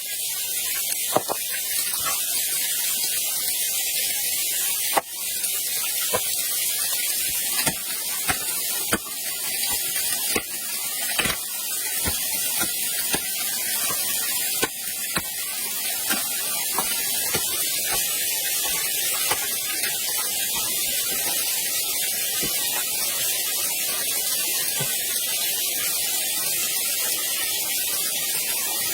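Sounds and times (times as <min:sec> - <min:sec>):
rushing water hiss: 0:00.0 - 0:28.9.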